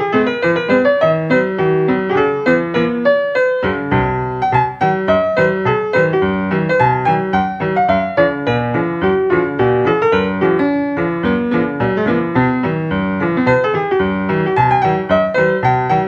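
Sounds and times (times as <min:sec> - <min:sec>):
quick piano tune: 0:00.0 - 0:16.0.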